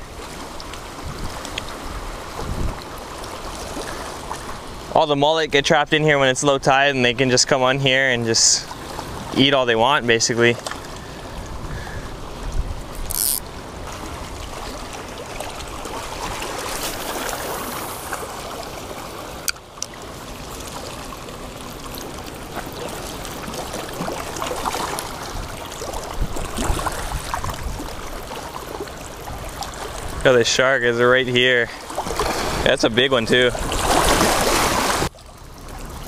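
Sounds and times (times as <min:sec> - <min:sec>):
water lapping over rocks: 0:00.0 - 0:36.0.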